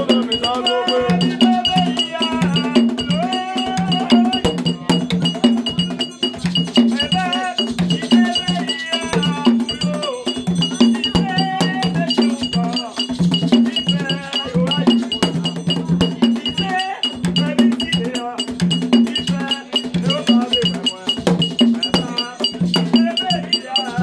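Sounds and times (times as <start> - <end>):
drum beat: 0.0 - 24.0
metal bell clanking: 0.0 - 24.0
voices singing: 0.0 - 24.0.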